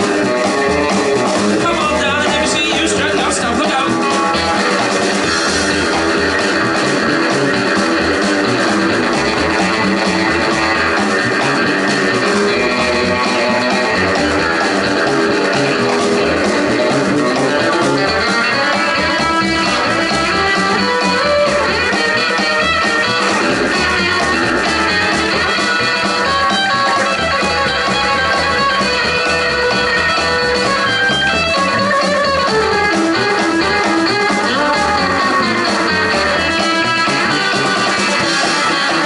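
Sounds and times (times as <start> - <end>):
bass: 0.0 - 39.0
drum kit: 0.0 - 39.0
lead guitar run: 0.0 - 39.0.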